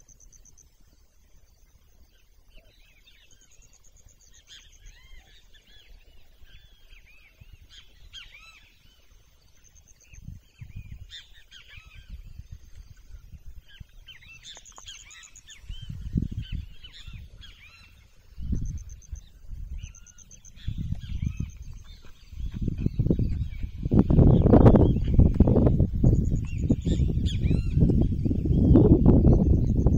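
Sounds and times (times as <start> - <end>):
small birds chirping: 0.0 - 29.9
wind rumbling on microphone: 0.0 - 29.9.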